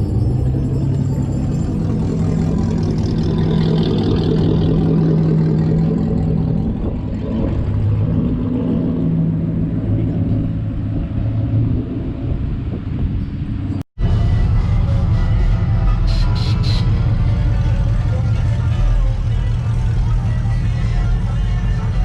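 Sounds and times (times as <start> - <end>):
pickup truck engine droning: 0.0 - 22.0.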